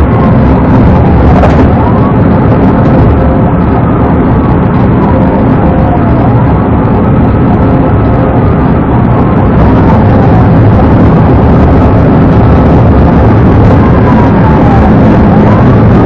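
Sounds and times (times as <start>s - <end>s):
car engine and road rumble: 0.0s - 16.0s
wailing police siren: 0.0s - 16.0s.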